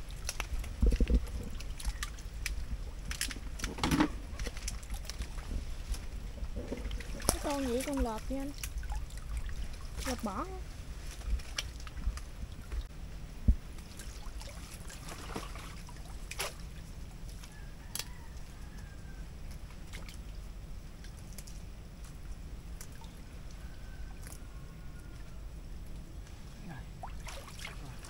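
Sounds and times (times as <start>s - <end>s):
muddy water sloshing: 0.0s - 12.9s, 13.6s - 28.0s.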